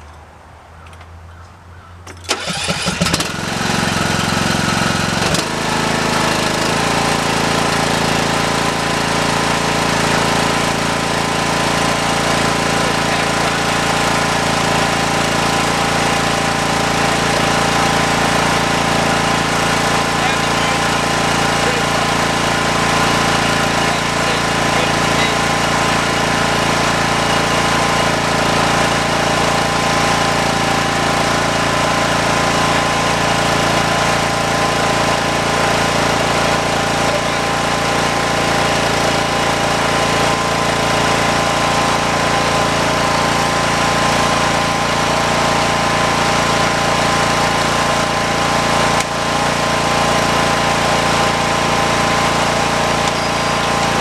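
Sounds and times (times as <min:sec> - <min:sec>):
lawn tractor mowing: 0:02.1 - 0:54.0.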